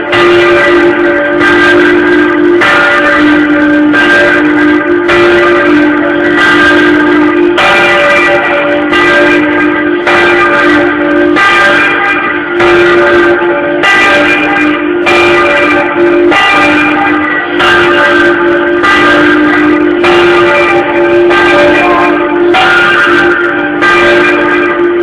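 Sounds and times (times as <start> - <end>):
church bell ringing: 0.0 - 25.0.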